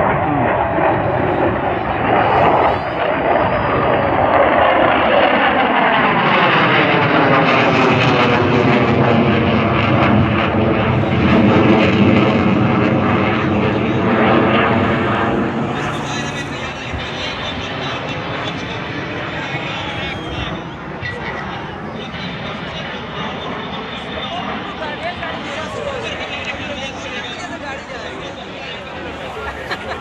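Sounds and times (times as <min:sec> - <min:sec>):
fighter jet flypast roar: 0:00.0 - 0:30.0.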